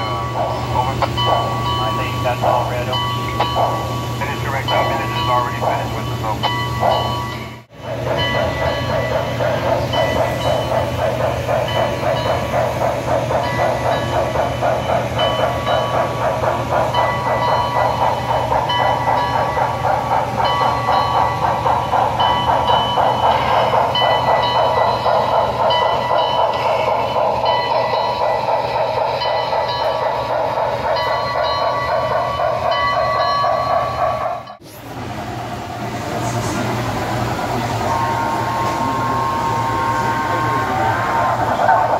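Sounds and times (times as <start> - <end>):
model steam locomotive chuffs: 0.0 - 41.9
steady low hum: 0.0 - 41.9.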